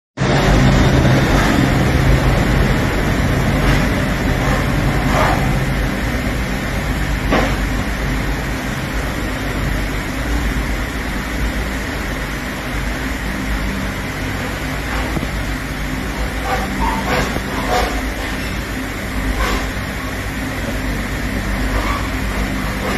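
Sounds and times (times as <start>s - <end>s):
engine rumble: 0.2s - 22.9s
low hum: 0.2s - 22.9s.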